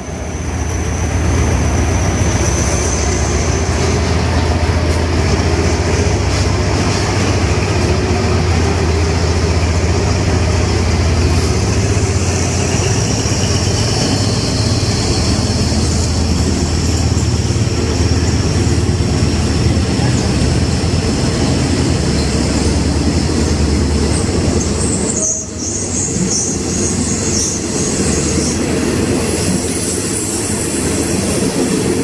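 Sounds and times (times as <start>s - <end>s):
locomotive engine drone: 0.0s - 32.0s
train coaches rumbling on rails: 0.0s - 32.0s.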